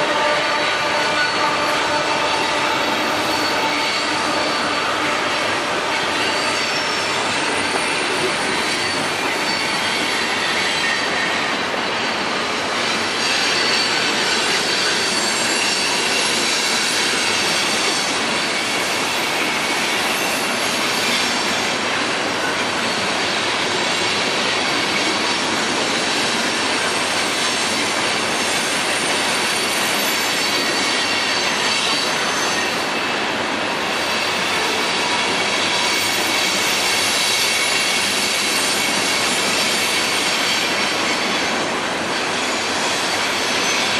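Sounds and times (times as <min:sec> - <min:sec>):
wheels squealing on rails: 0:00.0 - 0:43.9.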